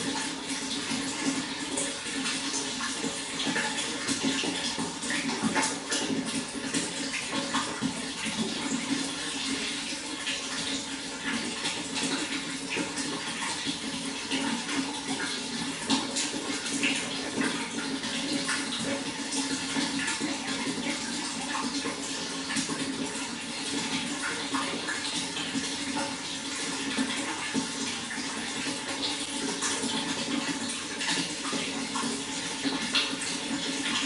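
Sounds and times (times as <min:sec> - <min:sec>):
running water splashing: 0:00.0 - 0:34.0.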